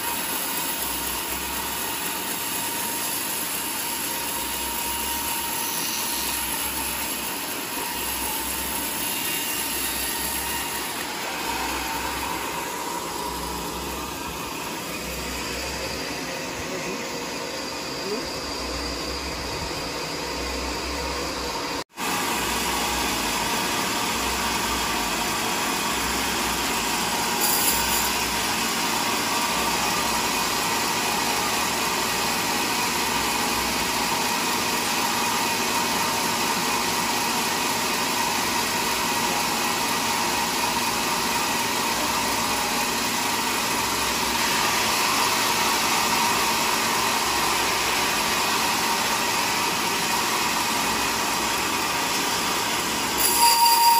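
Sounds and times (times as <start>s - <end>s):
band saw running with mechanical hum: 0.0s - 53.9s.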